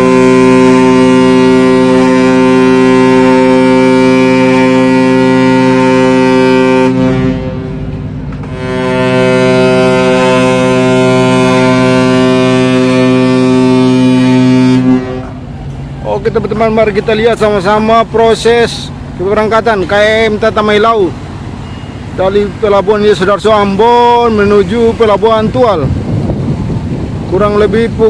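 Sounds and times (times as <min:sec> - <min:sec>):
ship horn deep blasts: 0:00.0 - 0:22.7.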